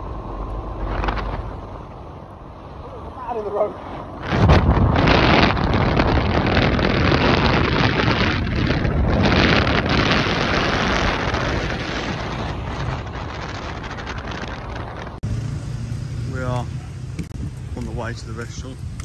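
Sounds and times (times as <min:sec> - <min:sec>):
vehicle engine and road noise: 0:00.0 - 0:19.0
wind rushing over microphone: 0:00.0 - 0:19.0.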